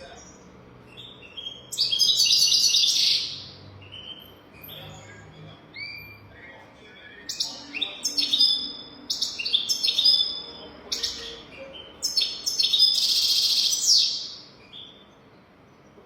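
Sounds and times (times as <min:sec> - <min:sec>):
bird twittering and trilling: 0:00.0 - 0:16.0.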